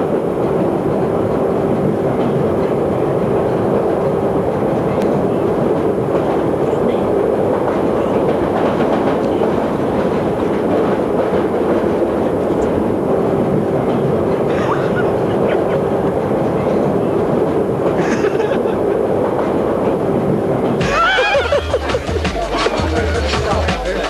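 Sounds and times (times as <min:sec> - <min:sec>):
underground train rumble: 0:00.0 - 0:24.0.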